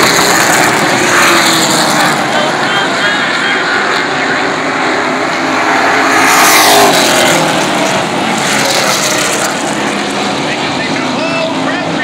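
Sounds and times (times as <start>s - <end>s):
car passing close: 0.0s - 11.3s
race car engines: 0.0s - 12.0s.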